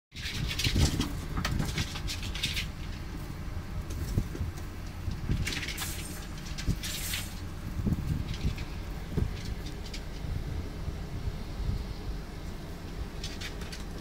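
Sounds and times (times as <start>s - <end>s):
steady low rumble: 0.1s - 14.0s.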